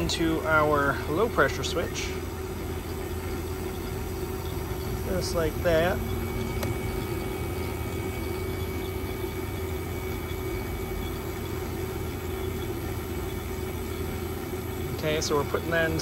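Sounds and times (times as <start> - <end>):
vacuum pump droning: 0.0 - 16.0.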